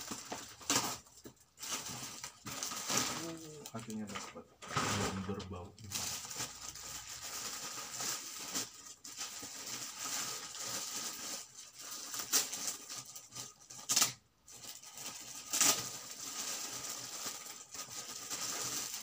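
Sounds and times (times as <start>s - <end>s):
gift wrapping rustling and crinkling: 0.0s - 19.0s.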